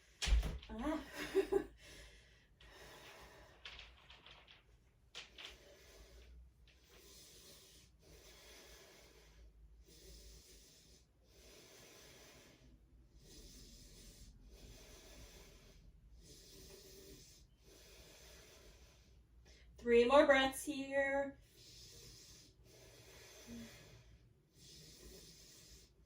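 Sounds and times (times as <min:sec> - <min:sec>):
faint slow breathing: 0:01.7 - 0:19.8, 0:21.4 - 0:26.0.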